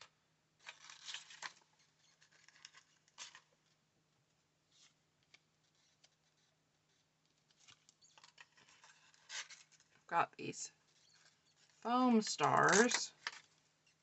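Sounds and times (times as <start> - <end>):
rustling of craft supplies: 0.0 - 14.0.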